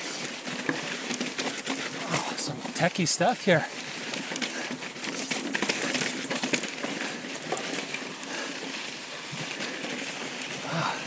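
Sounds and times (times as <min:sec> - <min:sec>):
bike rattling over rocks: 0:00.0 - 0:11.0
bike tyres on gravel: 0:00.0 - 0:11.0.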